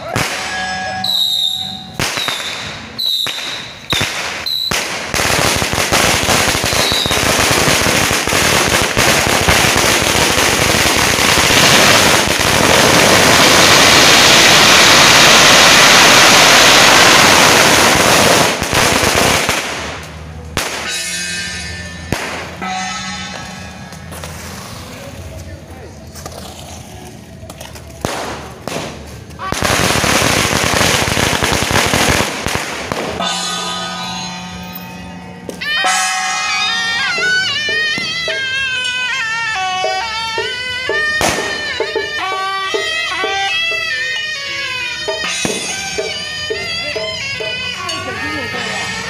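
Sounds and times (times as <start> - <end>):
firecrackers crackling: 0.0 - 49.0.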